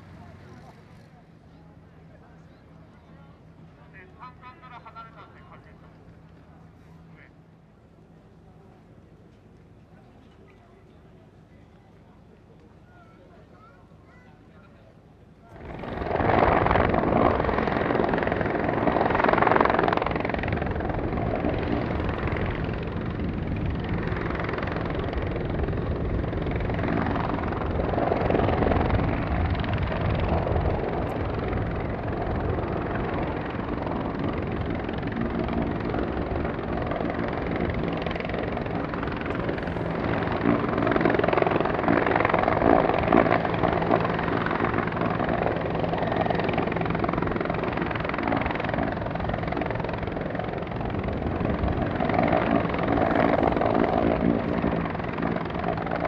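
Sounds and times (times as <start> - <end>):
helicopter rotor beat: 0.0 - 9.8, 14.9 - 56.0.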